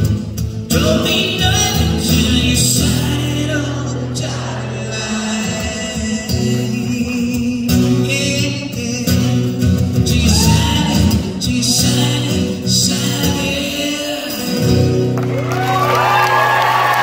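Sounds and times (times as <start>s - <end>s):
strummed acoustic guitar: 0.0s - 15.4s
man singing live: 0.0s - 16.5s.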